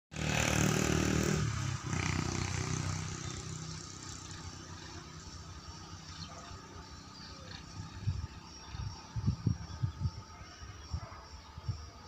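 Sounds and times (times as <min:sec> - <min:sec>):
motor engine running: 0:00.1 - 0:10.4.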